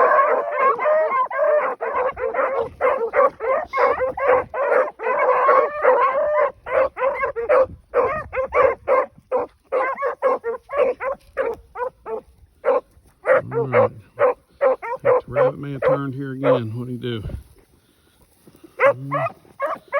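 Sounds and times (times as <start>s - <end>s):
hounds baying and barking: 0.0s - 19.9s.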